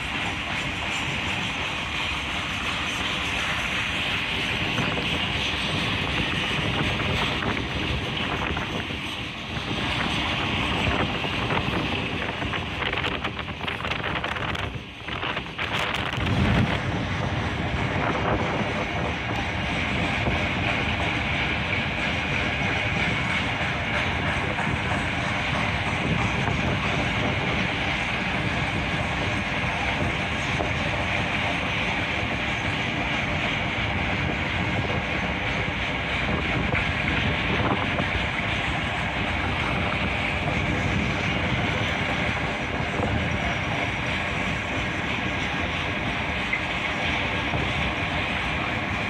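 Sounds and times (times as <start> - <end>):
train wheels rumbling on rail: 0.0 - 49.0
wind buffeting microphone: 0.0 - 49.0.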